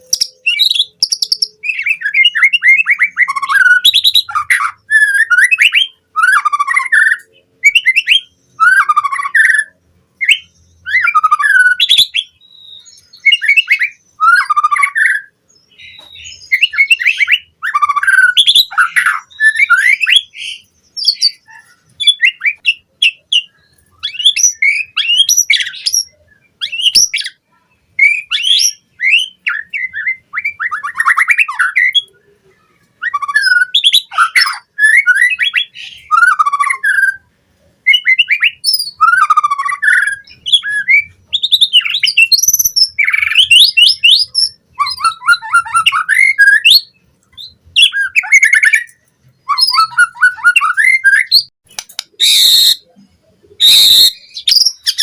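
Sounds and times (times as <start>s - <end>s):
bird singing trills and whistles: 0.0s - 55.0s.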